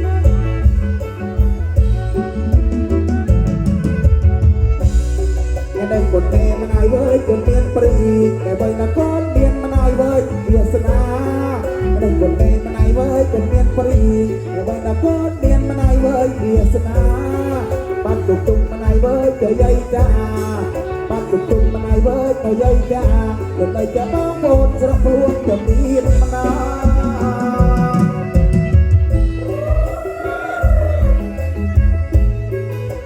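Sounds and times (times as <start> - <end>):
steady low drum beat: 0.0 - 20.6, 21.2 - 33.0
person singing: 5.1 - 32.2.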